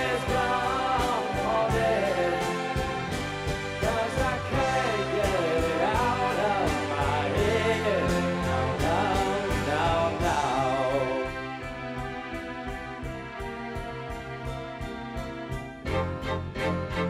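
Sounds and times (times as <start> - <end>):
song with singing voice and beat: 0.0 - 17.0.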